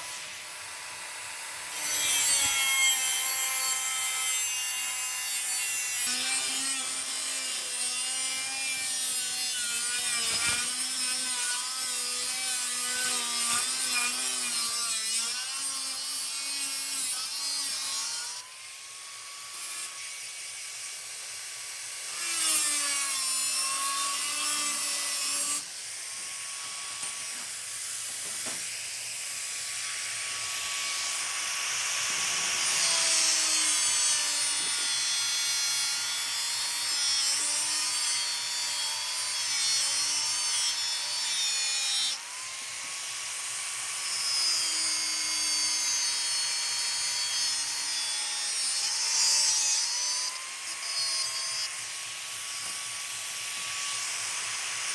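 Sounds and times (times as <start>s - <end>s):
rasping cutting noise: 0.0s - 54.9s
small electric motor whining: 0.0s - 54.9s.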